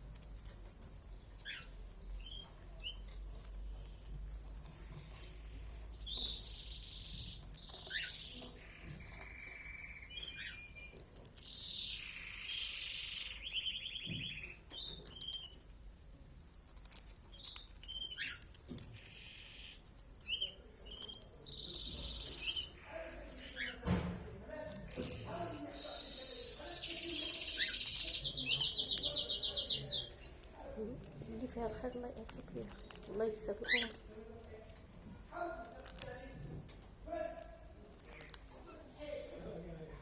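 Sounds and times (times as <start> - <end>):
birds chirping and singing: 0.9 - 15.7, 16.3 - 34.0.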